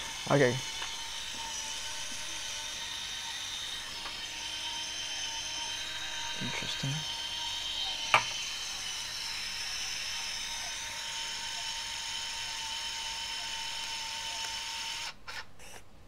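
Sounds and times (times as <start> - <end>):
camera motor whining: 0.0 - 15.8.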